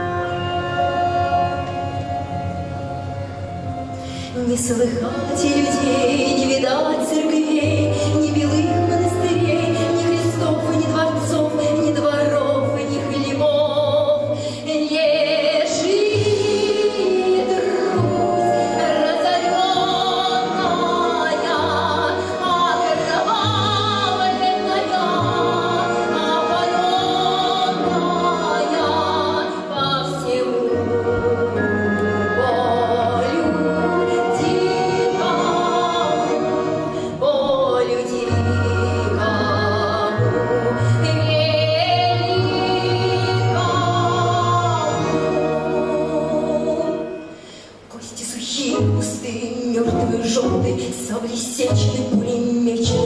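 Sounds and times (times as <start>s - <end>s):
orchestral accompaniment: 0.0s - 53.0s
woman singing classical song: 0.0s - 53.0s.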